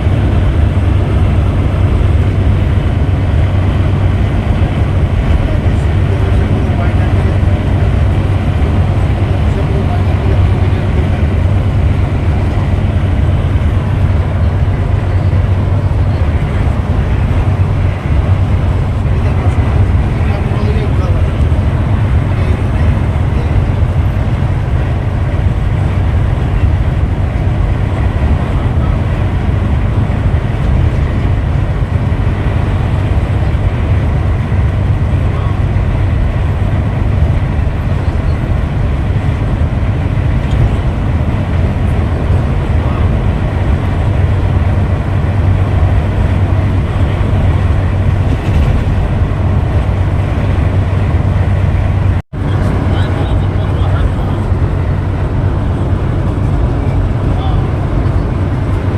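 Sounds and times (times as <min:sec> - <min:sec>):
coach engine and road noise: 0:00.0 - 0:58.9.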